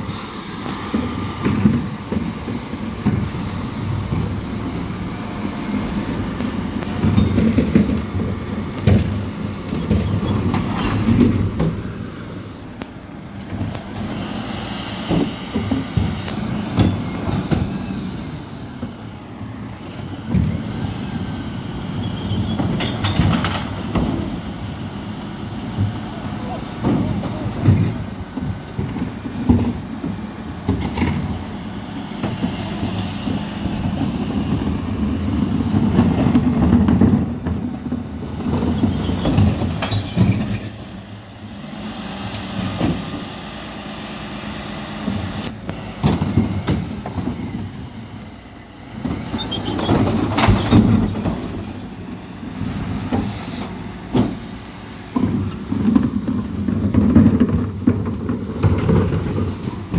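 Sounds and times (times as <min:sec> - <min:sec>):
bin lorry engine running: 0:00.0 - 0:59.9.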